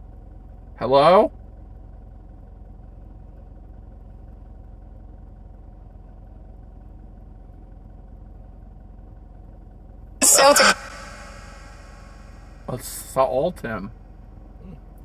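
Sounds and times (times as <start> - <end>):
van engine idling: 0.0 - 10.1, 11.8 - 15.0.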